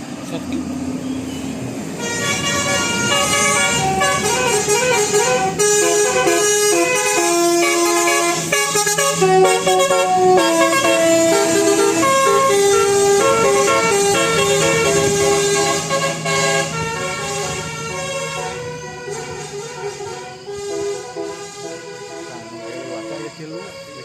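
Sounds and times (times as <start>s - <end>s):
musical bus horn tune: 1.9s - 24.0s.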